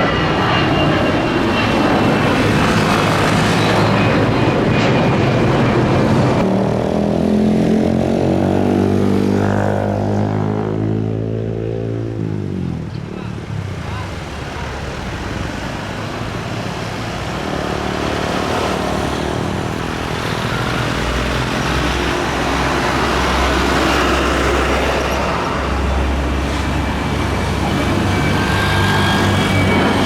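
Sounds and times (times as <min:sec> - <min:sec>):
jet engines rumbling with whine: 0:00.0 - 0:11.2, 0:11.8 - 0:30.0.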